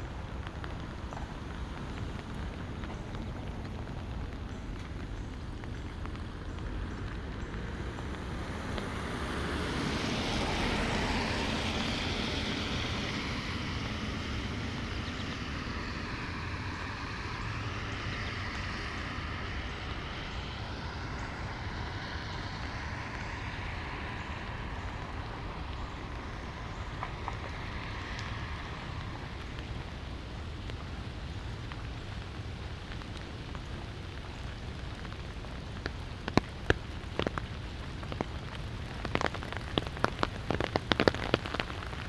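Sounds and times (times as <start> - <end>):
car tyres hissing on wet road: 0.0 - 42.0
light rain pattering: 0.0 - 42.0.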